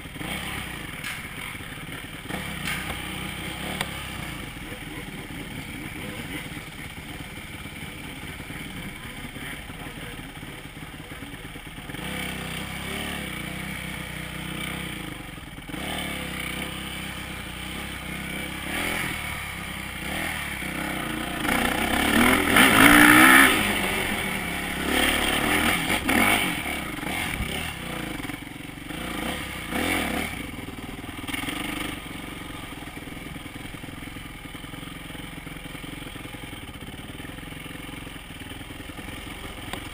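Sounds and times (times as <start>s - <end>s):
dirt bike engine revving: 0.0s - 10.4s, 11.3s - 39.9s.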